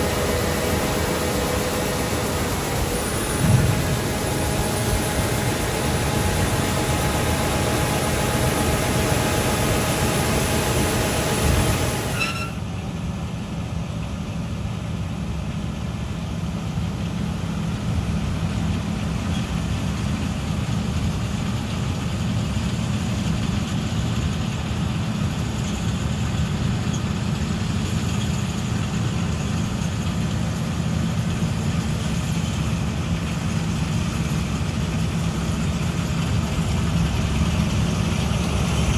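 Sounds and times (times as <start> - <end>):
diesel farm machinery running: 0.0 - 38.9.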